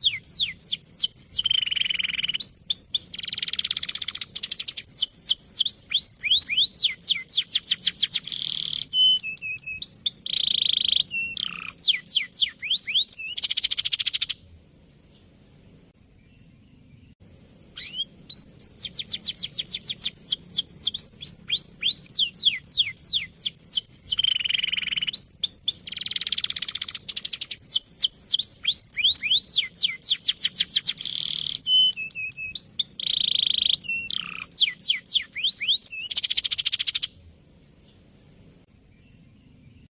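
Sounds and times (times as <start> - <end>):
canary singing rolling trills: 0.0 - 15.4, 16.1 - 38.1.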